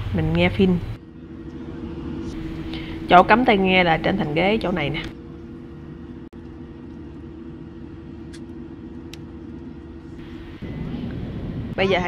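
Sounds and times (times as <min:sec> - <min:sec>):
jet airliner cabin rumble: 0:00.1 - 0:12.0.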